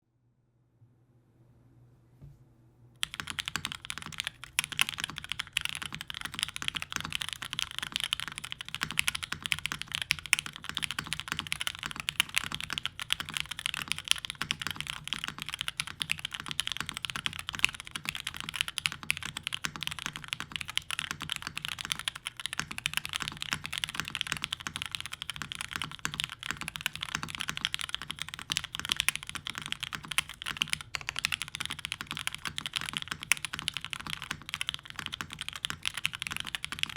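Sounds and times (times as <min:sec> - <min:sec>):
mechanical keyboard typing: 0:03.0 - 0:36.9.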